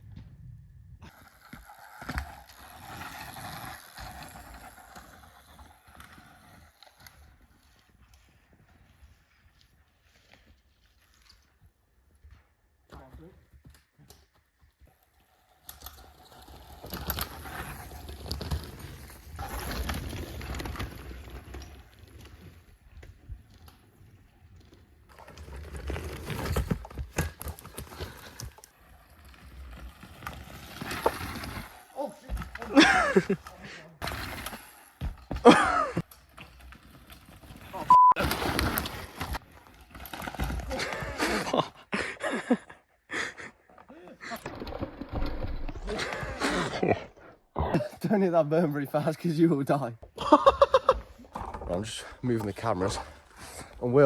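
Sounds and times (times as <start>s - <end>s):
bike rolling over dirt: 0.0s - 54.0s.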